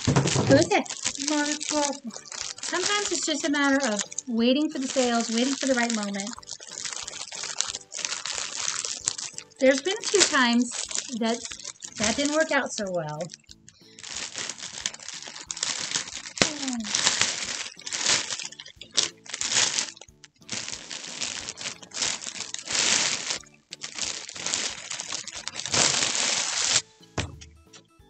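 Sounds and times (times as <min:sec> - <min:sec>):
plastic bag crinkling: 0:00.0 - 0:27.5.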